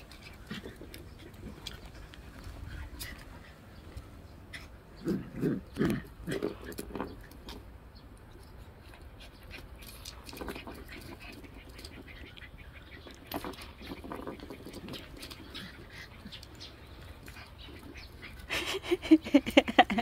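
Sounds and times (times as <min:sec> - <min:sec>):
scuffling and clicking on concrete: 0:00.0 - 0:20.0.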